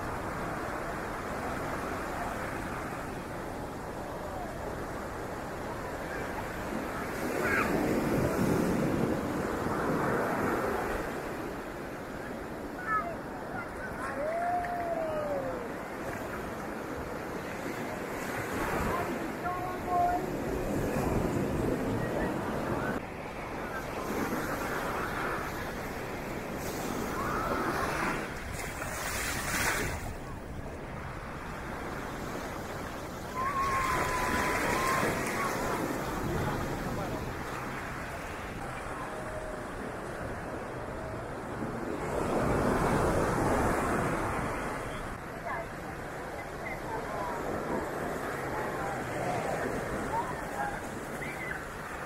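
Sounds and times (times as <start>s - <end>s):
ocean surf breaking: 0.0s - 52.0s.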